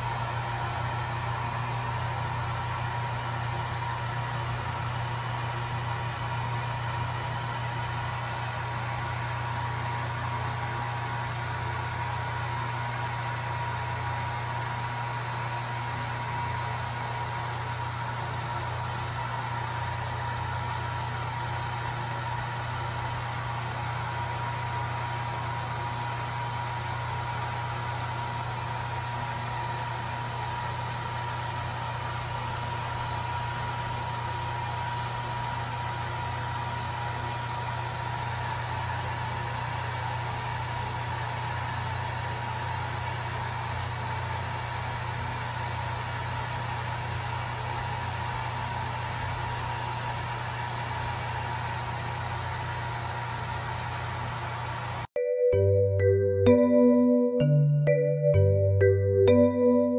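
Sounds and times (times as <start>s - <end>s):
hair dryer running: 0.0s - 55.1s.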